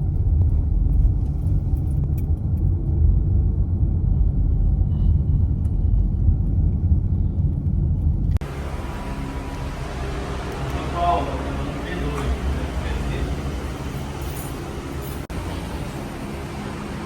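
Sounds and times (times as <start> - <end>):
car rumbling in motion: 0.0 - 17.0.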